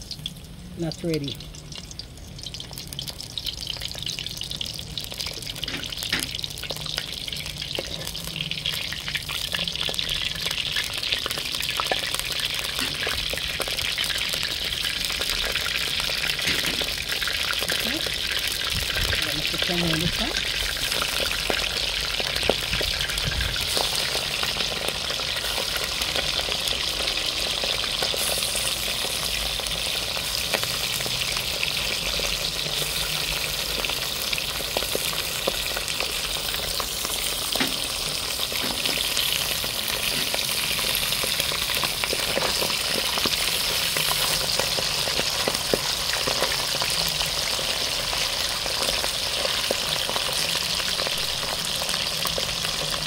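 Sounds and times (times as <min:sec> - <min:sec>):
fish frying in hot oil: 0:00.0 - 0:53.0
oil crackling: 0:00.0 - 0:53.0.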